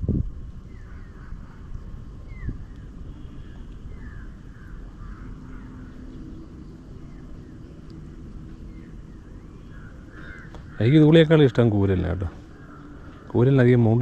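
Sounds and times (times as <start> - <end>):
distant engine hum: 0.0 - 14.0
low steady rumble: 0.0 - 14.0
birds chirping: 0.5 - 14.0.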